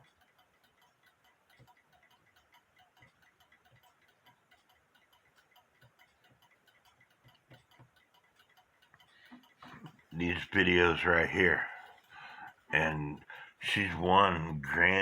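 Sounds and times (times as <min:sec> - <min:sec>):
fast mechanical clock ticking: 0:00.0 - 0:15.0.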